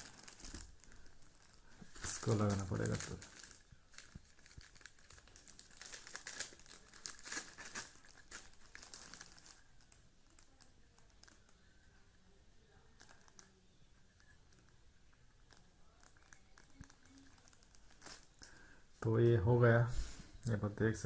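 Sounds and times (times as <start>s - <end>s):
wrapping crinkling and rustling: 0.0s - 19.1s.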